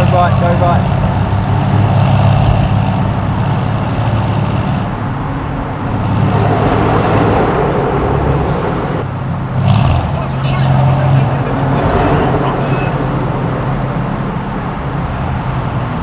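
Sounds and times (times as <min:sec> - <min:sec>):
car engine running while driving: 0:00.0 - 0:16.0
tyre and road noise: 0:00.0 - 0:16.0.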